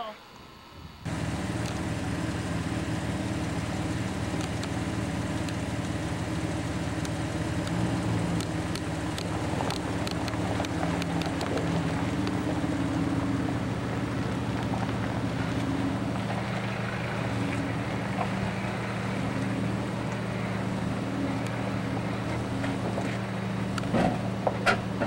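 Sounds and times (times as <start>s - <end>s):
wind and rumble noise: 0.5s - 25.0s
vehicle engine idling: 1.0s - 25.0s.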